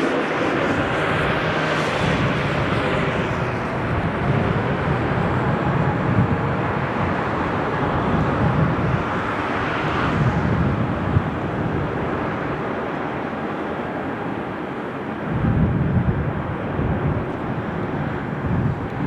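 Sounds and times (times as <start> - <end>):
jet engines at takeoff: 0.0 - 19.0.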